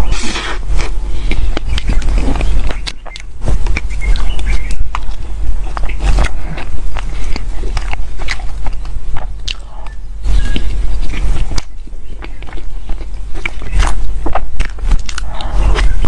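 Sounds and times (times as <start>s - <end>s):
wet chewing mouth sounds: 0.0s - 16.0s.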